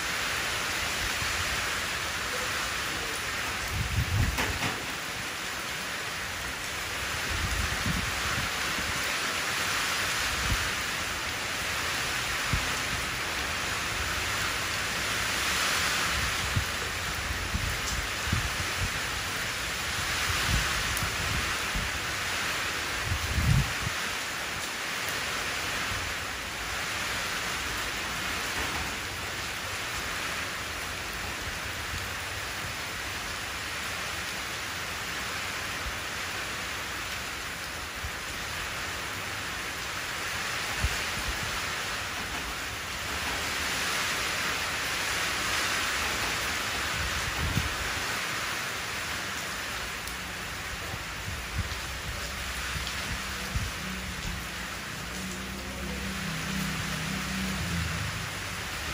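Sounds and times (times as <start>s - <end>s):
rain splashing into puddle: 0.0s - 58.9s.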